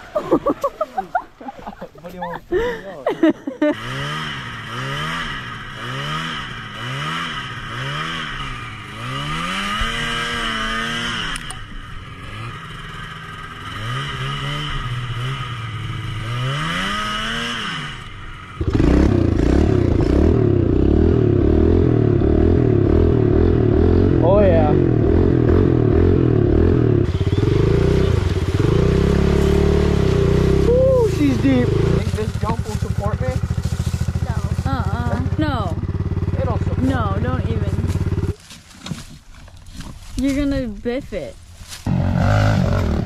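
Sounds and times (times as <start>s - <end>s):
dirt bike engine running: 3.2s - 43.0s
small gas engine revving: 3.6s - 43.0s.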